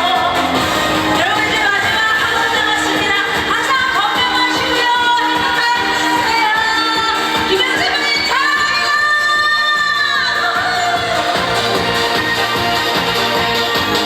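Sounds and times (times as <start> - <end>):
woman singing: 0.0 - 12.4
backing track with steady beat: 0.0 - 14.0.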